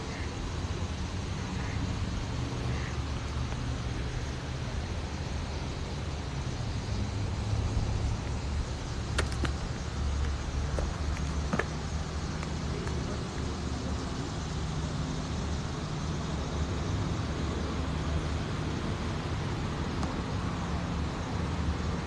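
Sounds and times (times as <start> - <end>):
distant road traffic rumble: 0.0 - 22.0
faint engine hum: 0.0 - 22.0.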